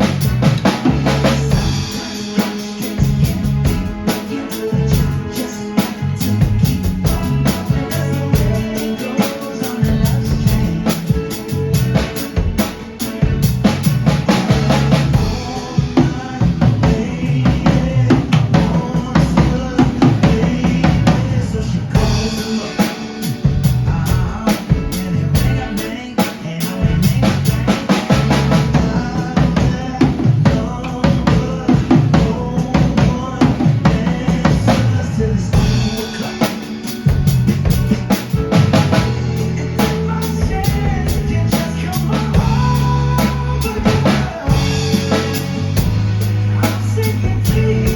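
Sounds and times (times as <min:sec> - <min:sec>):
backing music: 0:00.0 - 0:47.9
drum kit groove: 0:00.0 - 0:47.9.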